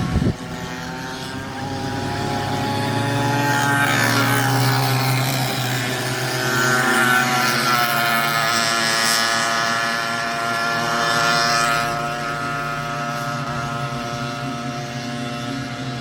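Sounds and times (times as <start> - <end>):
go-kart engine running: 0.0 - 16.0.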